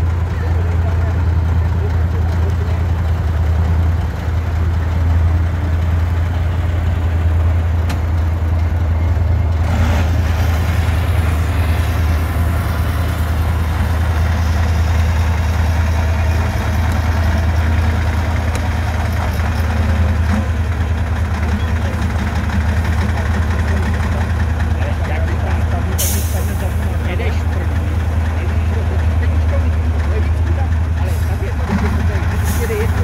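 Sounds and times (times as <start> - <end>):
truck engine at low revs: 0.0 - 33.0.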